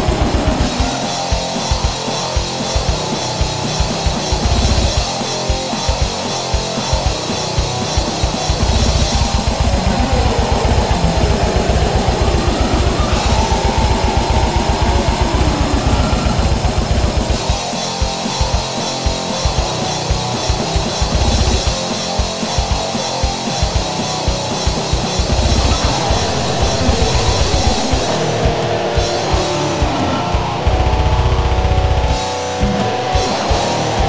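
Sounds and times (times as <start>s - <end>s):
drum kit playing: 0.0s - 34.0s
guitar playing: 0.0s - 34.0s.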